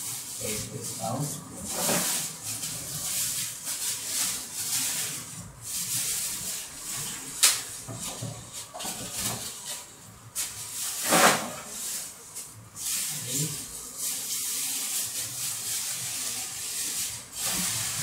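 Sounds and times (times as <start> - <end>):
plastic packaging rustling: 0.0 - 18.0.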